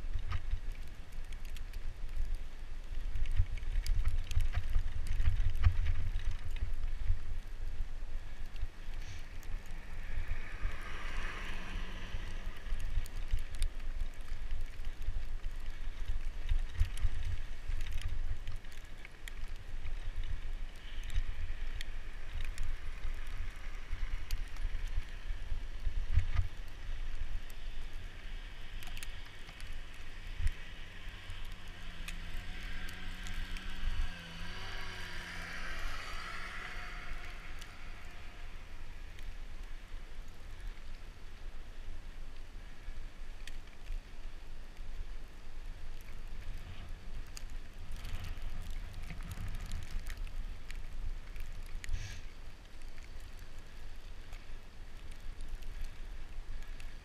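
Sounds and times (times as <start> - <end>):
small clicks: 0.0 - 7.6, 12.0 - 41.0, 43.4 - 45.0, 45.8 - 57.0.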